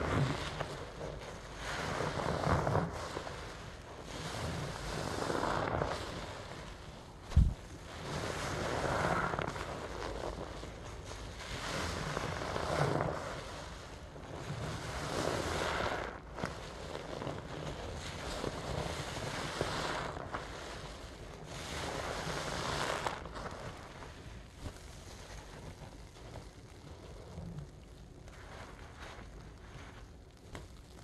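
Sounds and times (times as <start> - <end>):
sponge squelching in foam: 0.0 - 31.0.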